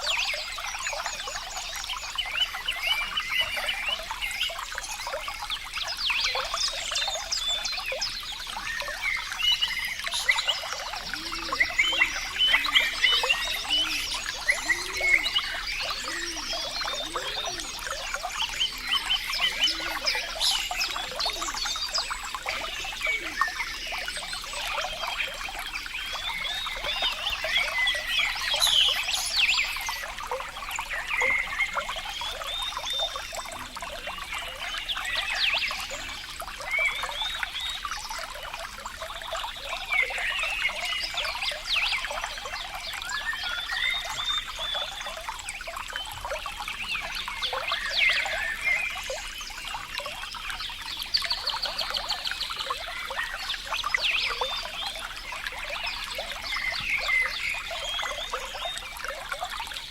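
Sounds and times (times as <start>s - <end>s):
water trickling and bubbling: 0.0s - 59.9s.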